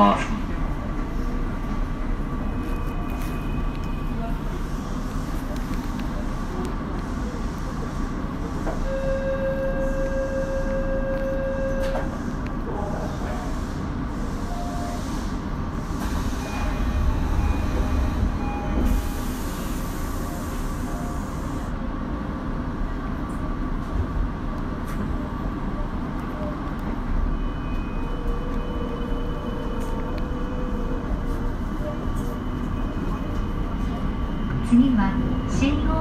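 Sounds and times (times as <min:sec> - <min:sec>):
subway train running rumble: 0:00.0 - 0:36.0.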